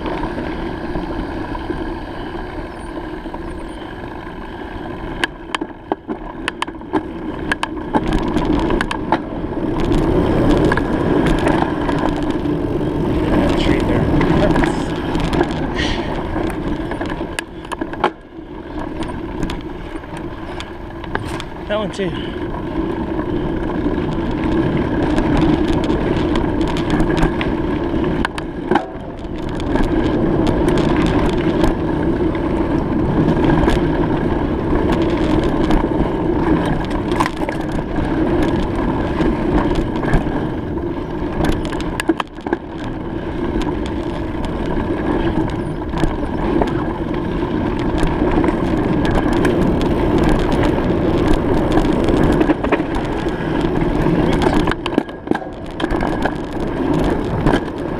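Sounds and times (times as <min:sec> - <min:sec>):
bicycle tyre and wind noise: 0:00.0 - 0:57.9.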